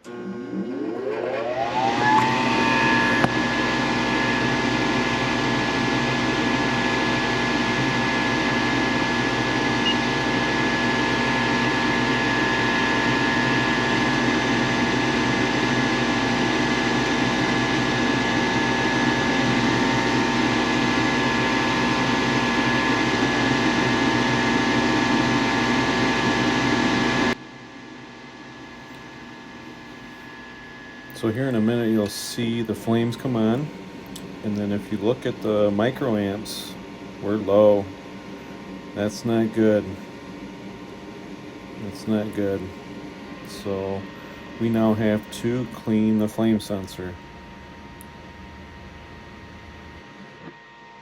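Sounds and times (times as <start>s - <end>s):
furnace motor whine: 0.0s - 51.0s.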